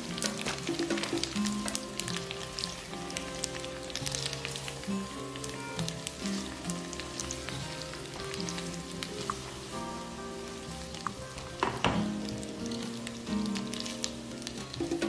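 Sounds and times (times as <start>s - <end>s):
food sizzling in a pan: 0.0s - 15.0s
soft background music: 0.0s - 15.0s.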